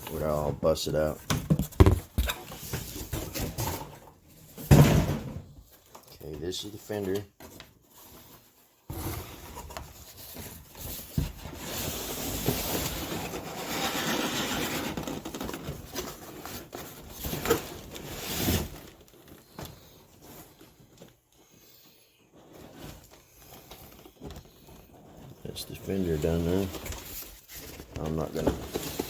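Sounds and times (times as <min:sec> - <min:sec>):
packaging rustling and scraping: 0:05.6 - 0:29.0.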